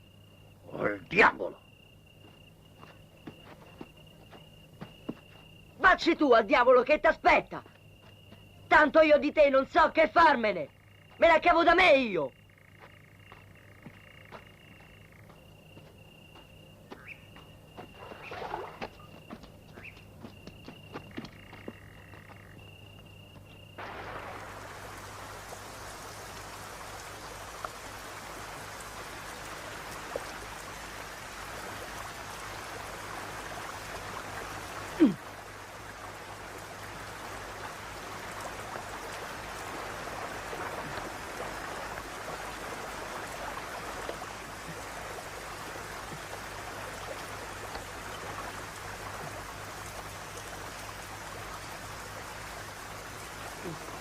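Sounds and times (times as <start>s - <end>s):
steady rain falling: 2.2s - 54.0s.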